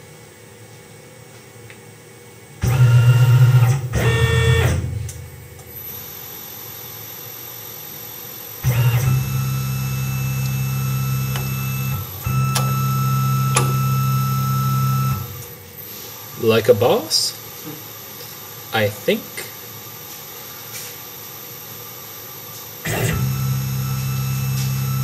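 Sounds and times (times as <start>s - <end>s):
mill spindle motor whine: 2.6s - 25.0s.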